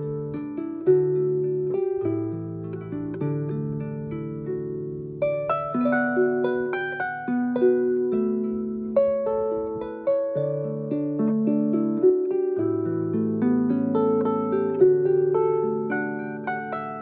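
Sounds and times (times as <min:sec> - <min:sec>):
harp-like plucked notes: 0:00.0 - 0:17.0.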